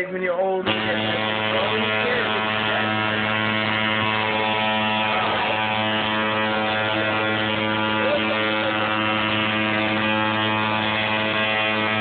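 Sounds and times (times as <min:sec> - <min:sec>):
tattoo machine buzzing: 0:00.6 - 0:12.0.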